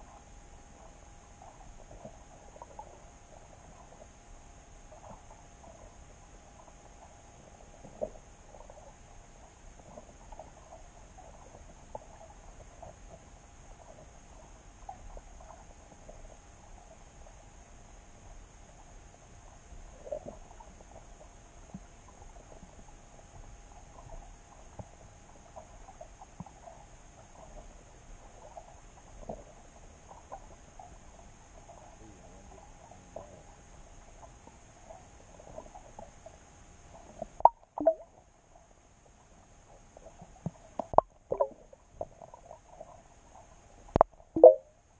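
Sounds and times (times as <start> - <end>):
small clicks and crackles: 0.0 - 44.6
faint steady tones: 0.0 - 44.9
underwater low rumble: 0.0 - 44.9.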